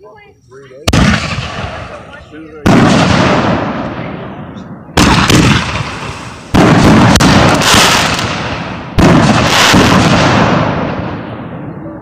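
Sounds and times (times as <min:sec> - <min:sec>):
aerial fireworks bursting: 0:00.8 - 0:12.0.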